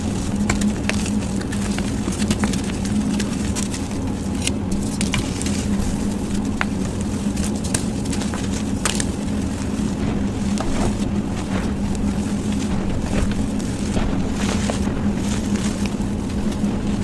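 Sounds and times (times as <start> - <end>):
chalk crunching and crackling: 0.0 - 17.0
low hum and rumble: 0.0 - 17.0.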